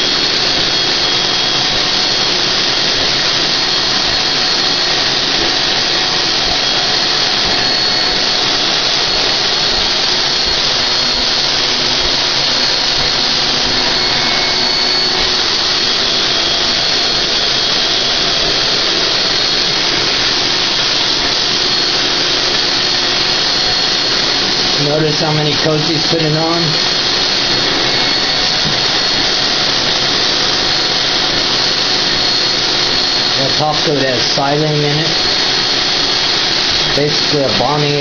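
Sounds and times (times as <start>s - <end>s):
spray gun hissing: 0.0s - 37.9s
high whine: 0.0s - 38.0s
spray turbine running: 0.0s - 38.0s.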